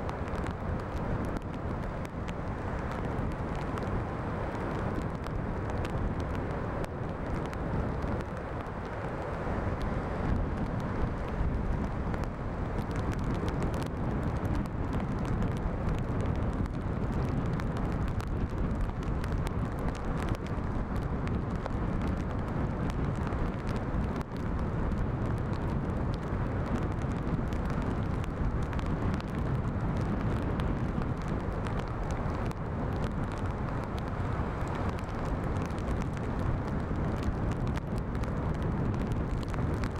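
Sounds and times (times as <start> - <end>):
small crackles: 0.0 - 39.9
strong wind on microphone: 0.0 - 39.9.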